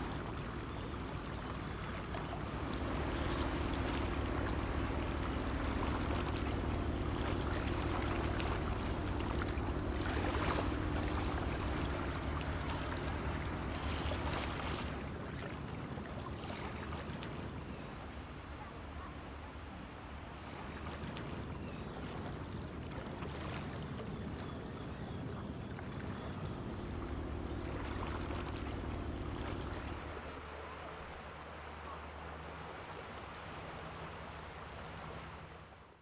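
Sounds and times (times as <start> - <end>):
ship engine drone: 0.0 - 35.9
small waves lapping: 0.0 - 36.0
wind: 0.0 - 36.0.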